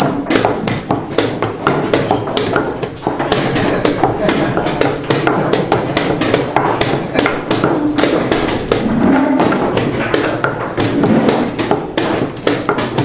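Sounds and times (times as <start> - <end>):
chess pieces knocking on board: 0.0 - 13.0.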